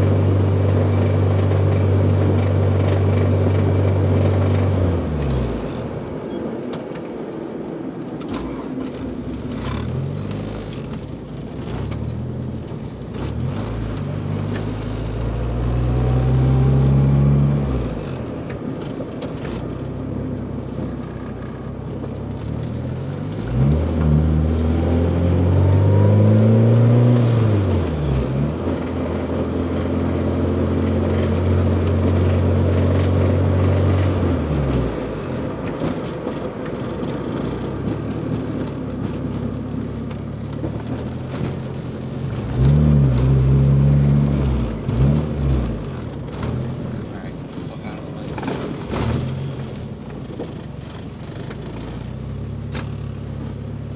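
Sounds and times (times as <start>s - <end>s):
car engine revving: 0.0s - 6.2s, 7.1s - 53.9s.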